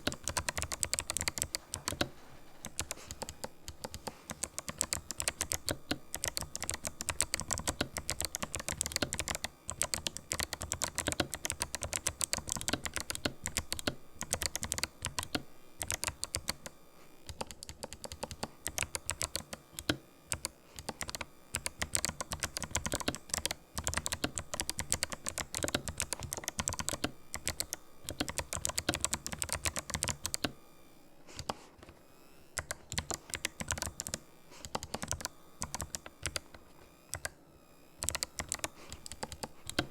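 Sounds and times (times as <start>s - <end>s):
clicky keyboard typing: 0.0s - 16.7s, 17.3s - 30.6s, 31.4s - 32.0s, 32.6s - 37.4s, 38.0s - 39.9s.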